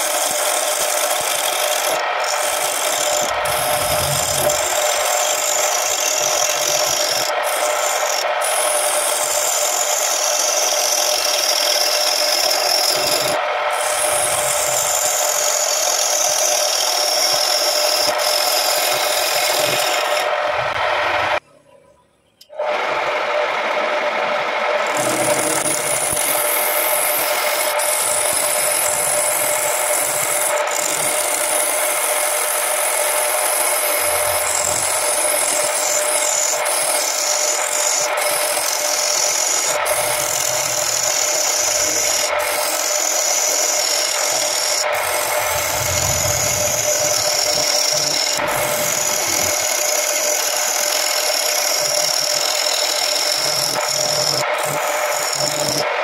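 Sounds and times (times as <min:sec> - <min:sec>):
turning tool cutting wood: 0:00.0 - 0:21.4, 0:22.5 - 0:56.0
wood lathe motor hum: 0:00.0 - 0:21.4, 0:22.5 - 0:56.0.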